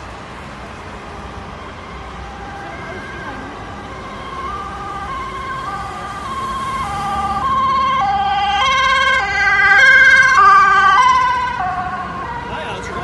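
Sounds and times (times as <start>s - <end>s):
two-tone siren: 1.6s - 13.0s.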